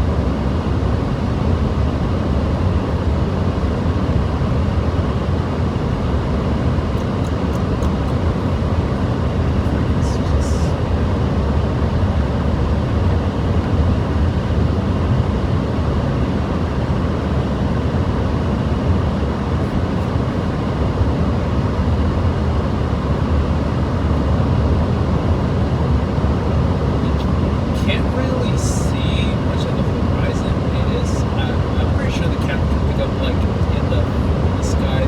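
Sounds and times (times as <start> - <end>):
car cabin road and wind noise: 0.0 - 35.0.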